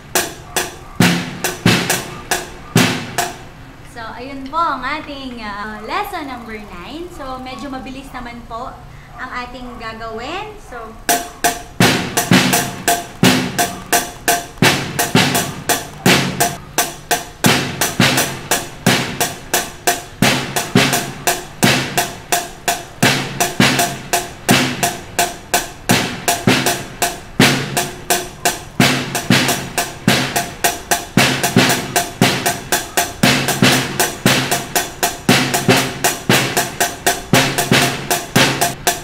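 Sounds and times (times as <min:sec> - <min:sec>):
snare drum hits: 0:00.0 - 0:03.5, 0:11.1 - 0:39.0.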